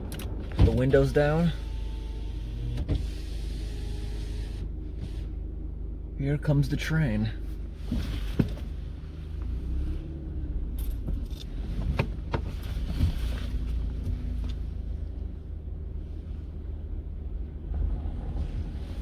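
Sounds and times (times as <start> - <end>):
car engine rumble: 0.0 - 19.0.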